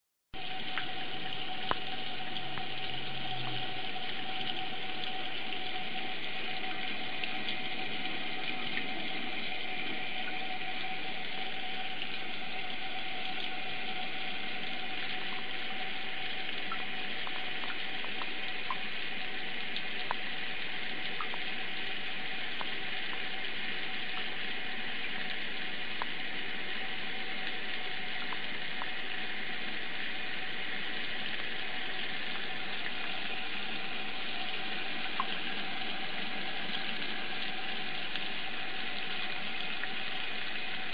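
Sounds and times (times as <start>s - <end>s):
faint drip ticks: 0.4s - 40.9s.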